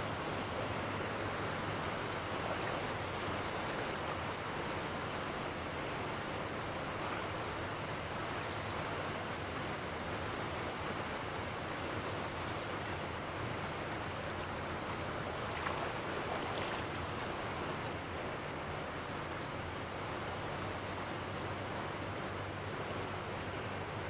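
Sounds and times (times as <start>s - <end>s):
ocean waves lapping: 0.6s - 9.2s, 11.5s - 24.0s.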